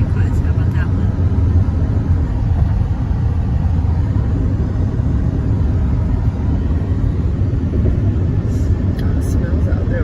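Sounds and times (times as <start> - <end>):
car cabin road rumble: 0.0 - 10.0.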